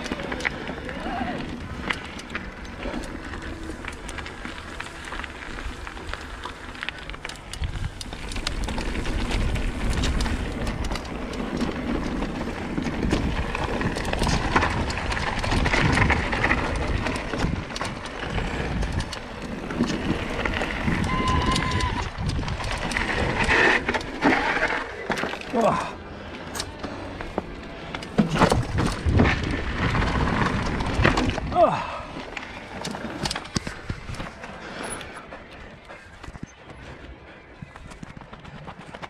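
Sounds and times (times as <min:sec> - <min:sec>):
bike rattling and knocking: 0:00.0 - 0:25.9, 0:26.6 - 0:37.0
bike tyres rolling over gravel: 0:00.0 - 0:39.0.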